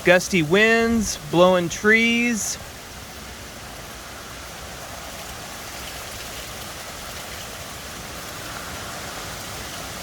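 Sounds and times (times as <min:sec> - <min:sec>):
gusty wind: 0:00.0 - 0:10.0
heavy rain: 0:00.0 - 0:10.0.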